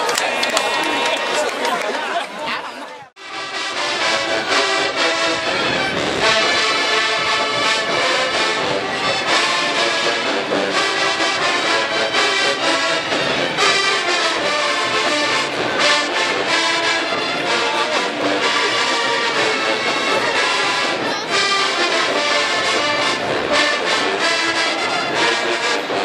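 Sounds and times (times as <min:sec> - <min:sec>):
marching band brass playing: 0:03.2 - 0:26.0.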